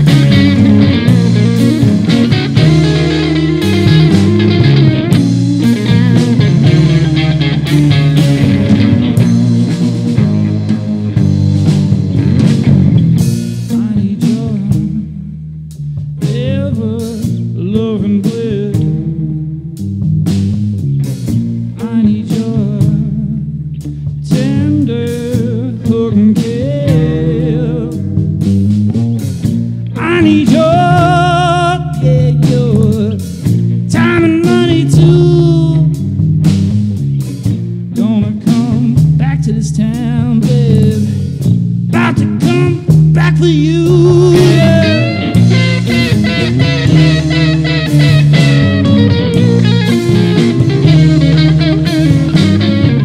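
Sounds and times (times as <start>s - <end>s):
drum kit: 0.0s - 53.0s
electric bass: 0.0s - 53.0s
electric guitars: 0.0s - 53.0s
rock band playing: 0.0s - 53.0s.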